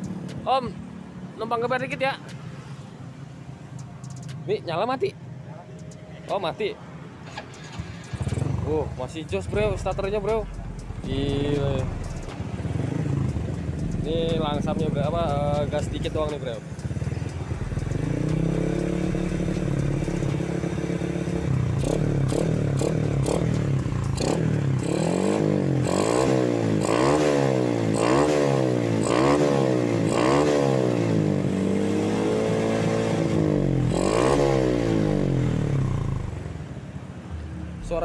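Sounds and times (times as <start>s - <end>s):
motorcycle engine idling and revving: 0.0s - 6.4s, 7.0s - 38.0s.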